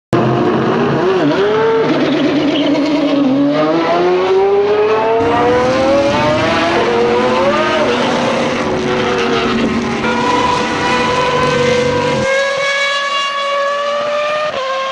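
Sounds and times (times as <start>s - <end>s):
car engine revving hard: 0.2s - 14.9s.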